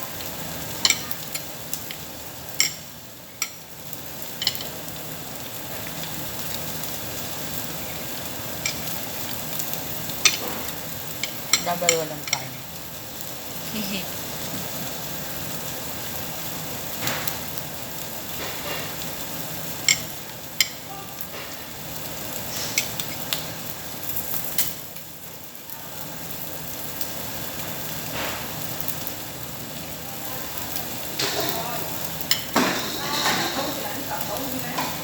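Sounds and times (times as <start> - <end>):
meat sizzling on grill: 0.0 - 35.0.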